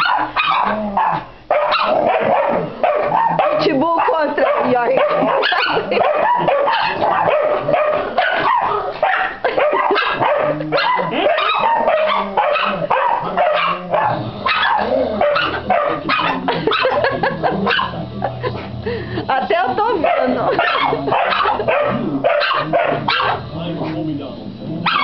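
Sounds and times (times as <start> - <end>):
dogs barking and yapping: 0.0 - 25.0.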